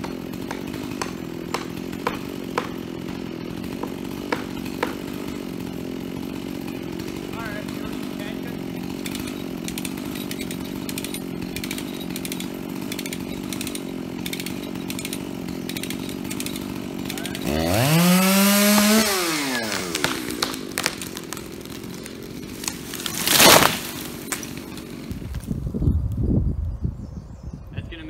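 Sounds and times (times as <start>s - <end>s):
tree cracking: 0.0s - 25.7s
chainsaw running: 0.0s - 25.9s.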